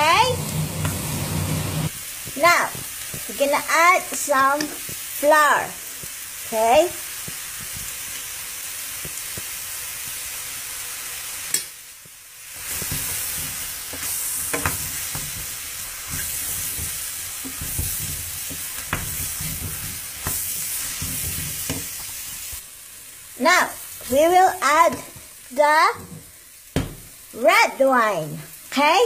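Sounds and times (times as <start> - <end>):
food sizzling in butter: 0.0 - 29.0.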